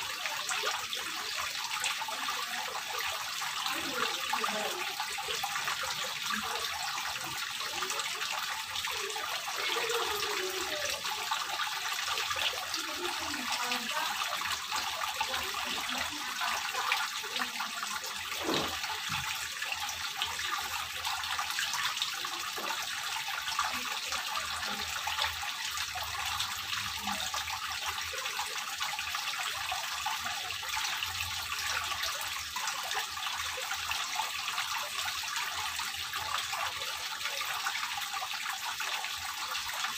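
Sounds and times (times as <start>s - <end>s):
fountain water splashing and trickling: 0.0s - 39.9s.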